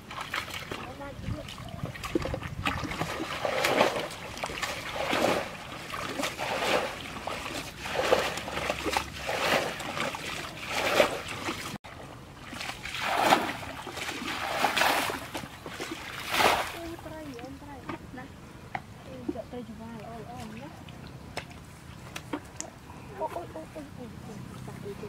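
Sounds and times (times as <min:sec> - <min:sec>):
water splashing: 0:00.0 - 0:18.0, 0:19.1 - 0:25.0
buckets scooping water: 0:00.0 - 0:18.1, 0:18.9 - 0:25.0.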